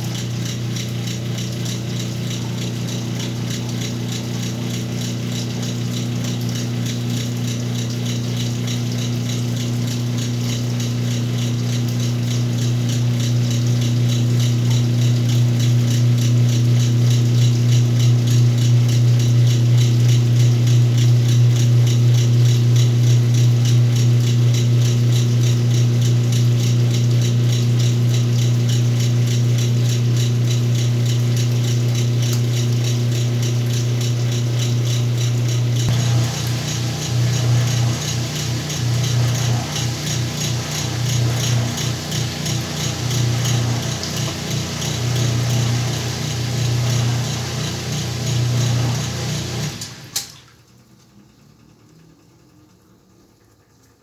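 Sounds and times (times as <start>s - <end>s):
washing machine motor humming: 0.0s - 50.7s.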